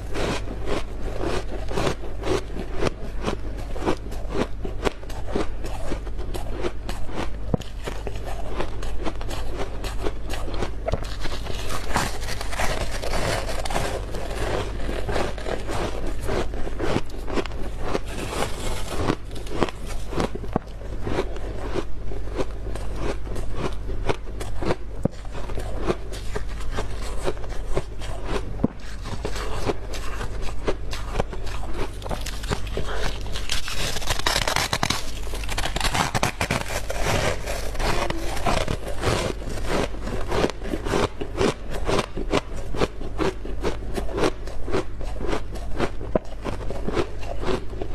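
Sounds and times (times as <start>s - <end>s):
freezer frost crunching: 0.0s - 47.9s
steady low hum: 0.0s - 47.9s.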